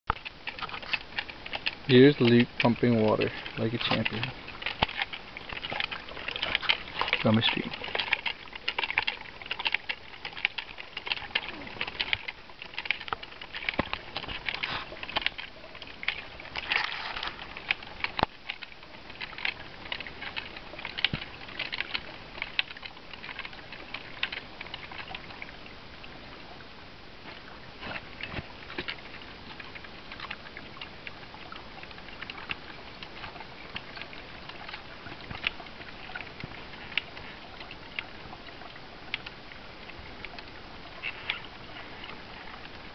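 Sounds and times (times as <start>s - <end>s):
faint rush of water: 0.1s - 42.9s.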